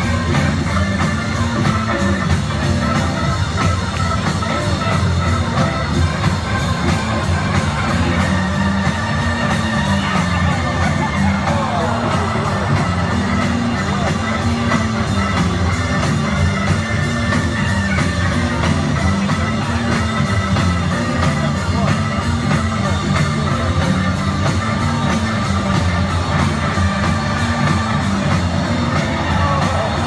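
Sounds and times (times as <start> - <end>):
rock music over loudspeakers: 0.0 - 30.0.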